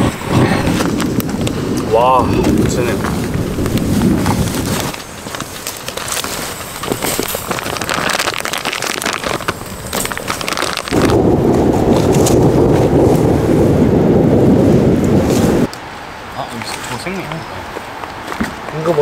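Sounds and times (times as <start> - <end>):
deep rushing rain: 0.0 - 18.2
rain pattering: 0.0 - 19.0.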